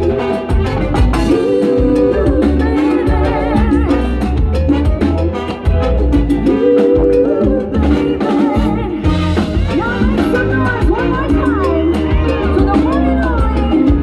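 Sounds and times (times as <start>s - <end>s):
live salsa band playing: 0.0s - 14.0s
steady drum beat: 0.0s - 14.0s.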